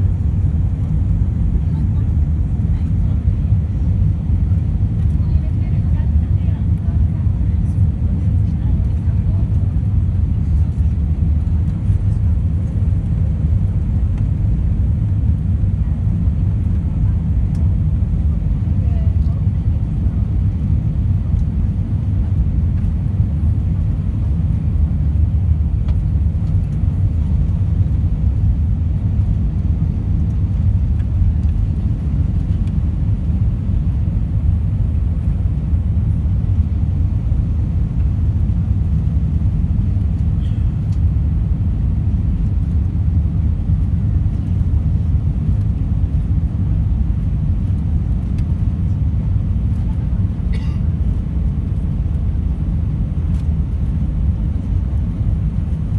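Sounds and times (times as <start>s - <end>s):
airplane cabin rumble: 0.0s - 55.9s.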